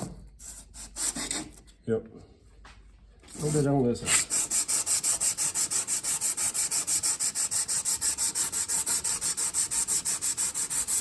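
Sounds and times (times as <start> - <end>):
metal rasping on sandpaper: 0.4 - 1.6, 3.3 - 11.0.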